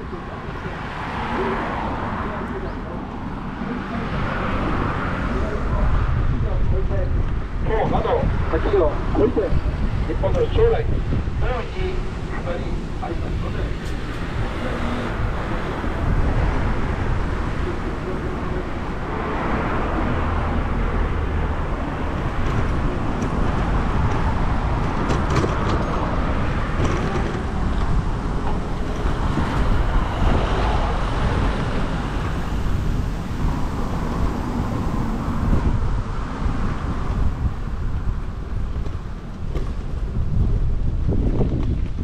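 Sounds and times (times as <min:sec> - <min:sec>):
road traffic passing: 0:00.0 - 0:42.0
wind rumble on microphone: 0:00.0 - 0:42.0.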